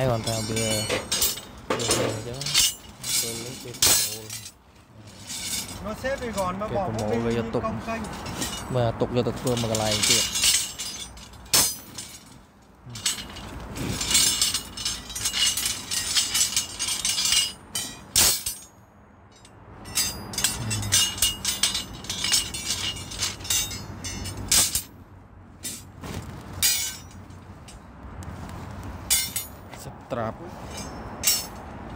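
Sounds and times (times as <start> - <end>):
steel bars clinking together: 0.0 - 8.8, 9.4 - 25.0, 25.6 - 25.9, 26.6 - 27.8, 29.1 - 29.7, 30.6 - 31.7.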